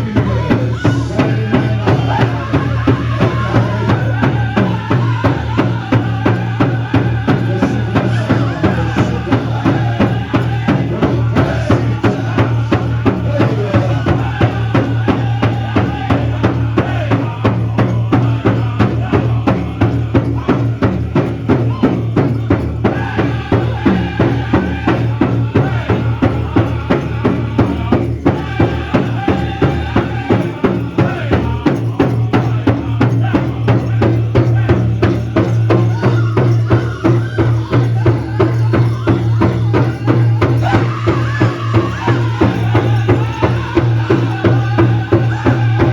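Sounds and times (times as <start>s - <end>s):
big drum beat: 0.0s - 45.9s
group singing in high voices: 0.0s - 45.9s.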